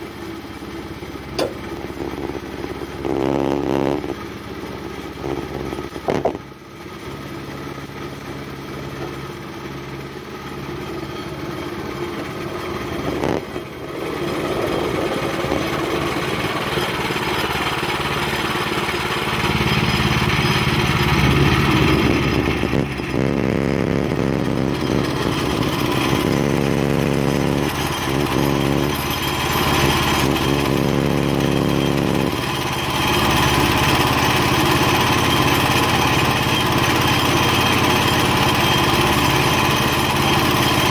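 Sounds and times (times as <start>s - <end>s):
engine running under load: 0.0s - 40.9s.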